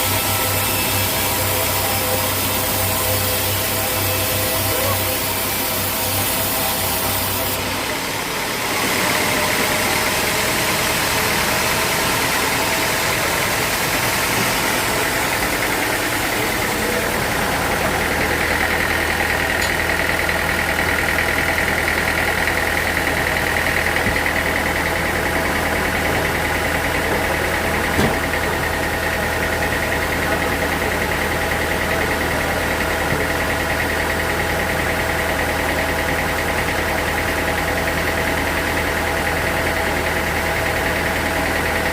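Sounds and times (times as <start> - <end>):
high saw whine: 0.0 - 41.9
low motor hum: 0.0 - 41.9.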